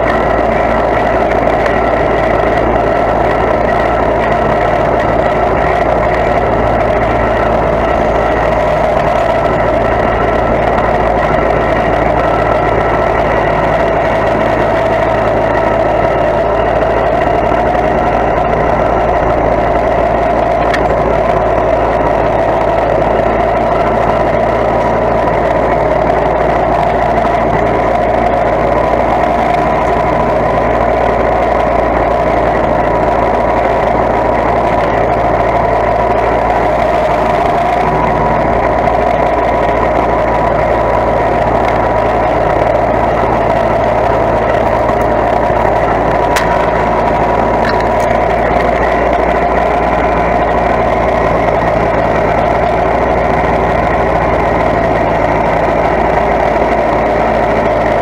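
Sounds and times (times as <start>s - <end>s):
lawn tractor engine droning: 0.0s - 58.0s.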